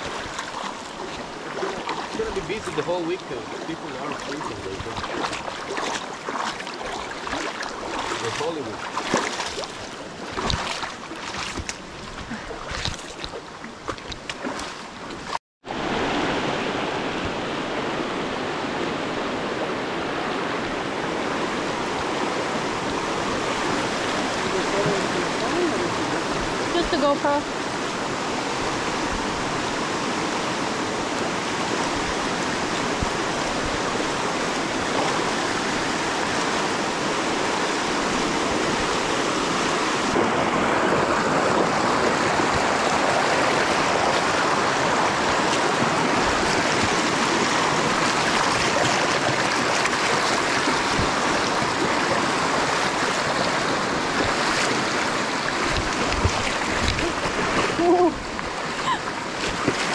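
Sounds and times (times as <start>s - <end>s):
water flowing over rocks: 0.0s - 59.9s.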